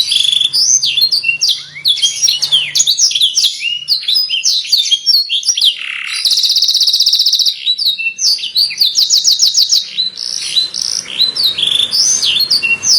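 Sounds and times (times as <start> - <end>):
canary singing: 0.0 - 12.9.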